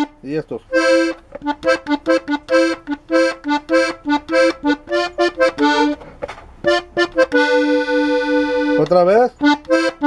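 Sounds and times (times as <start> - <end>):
button accordion melody: 0.0 - 10.0.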